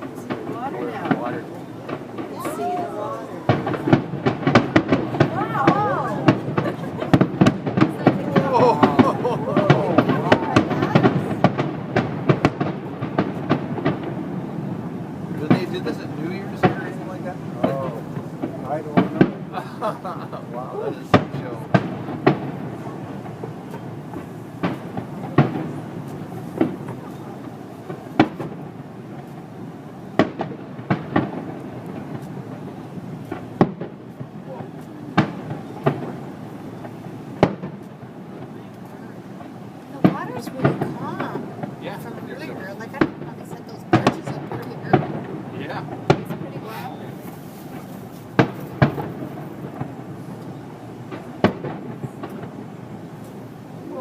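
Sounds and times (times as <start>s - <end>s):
fireworks bangs: 0.0s - 54.0s
fireworks crackle and echo: 0.0s - 54.0s
steady background noise: 0.0s - 54.0s.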